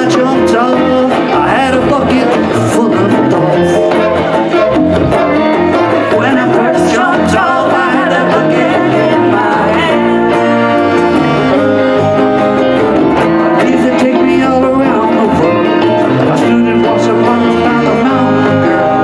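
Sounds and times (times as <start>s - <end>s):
acoustic guitar: 0.0s - 19.0s
bass guitar: 0.0s - 19.0s
drums: 0.0s - 19.0s
saxophone: 0.0s - 19.0s.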